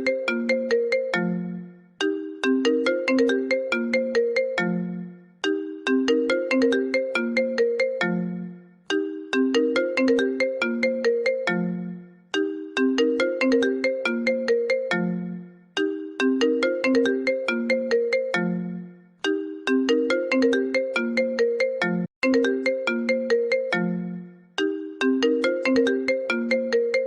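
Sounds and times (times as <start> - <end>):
phone ringtone: 0.0 - 27.0.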